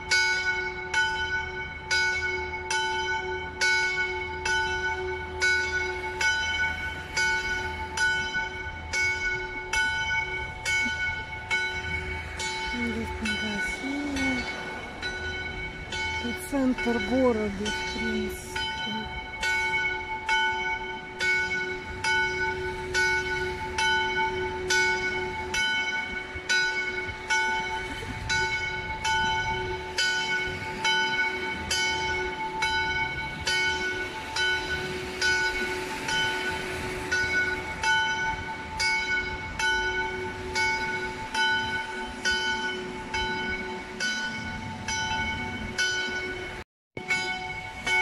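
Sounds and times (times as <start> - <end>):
church bell tolling: 0.0 - 48.0.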